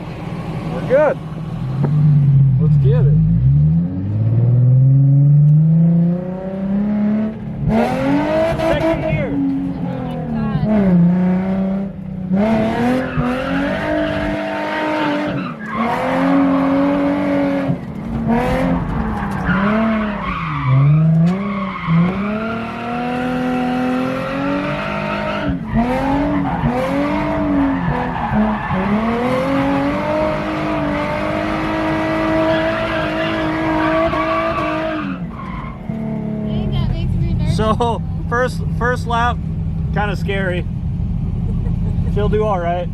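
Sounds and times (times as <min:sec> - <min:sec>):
car engine revving: 0:00.0 - 0:42.9
tyres skidding and squealing: 0:00.0 - 0:42.9.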